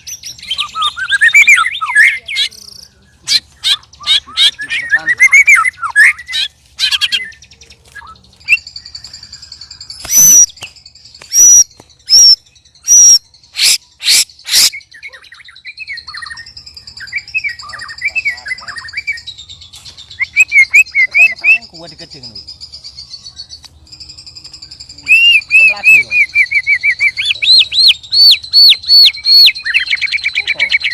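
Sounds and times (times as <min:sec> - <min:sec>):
high bird trilling: 0:00.0 - 0:30.9
very loud sharp bird notes: 0:00.0 - 0:30.9.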